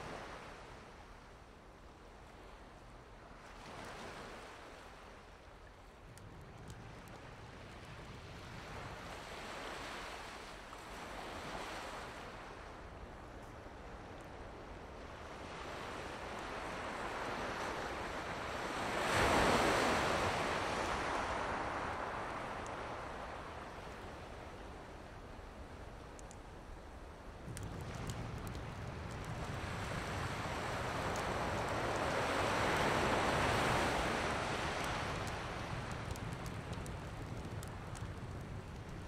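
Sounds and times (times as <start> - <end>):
ocean waves washing onto shore: 0.0 - 39.0.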